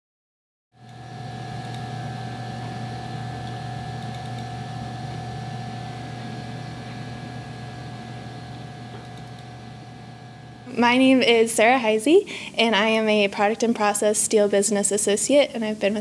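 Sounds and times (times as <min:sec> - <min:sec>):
machine hum: 0:00.8 - 0:16.0.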